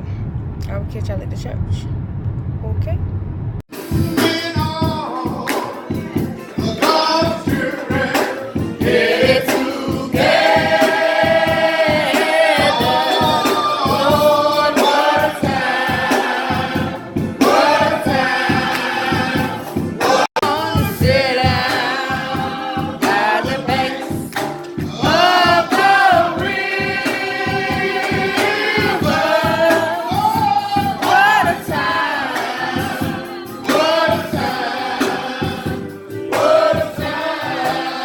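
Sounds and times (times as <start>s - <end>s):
gospel choir singing: 3.7s - 38.0s.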